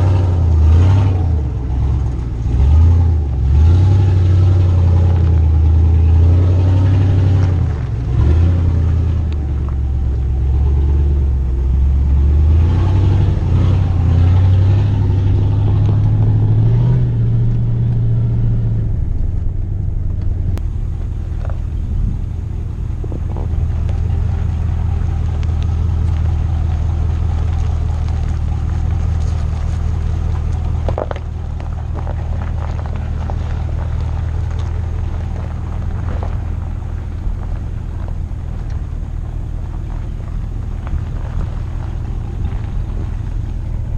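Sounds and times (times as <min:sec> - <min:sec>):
pickup truck engine running: 0:00.0 - 0:43.9.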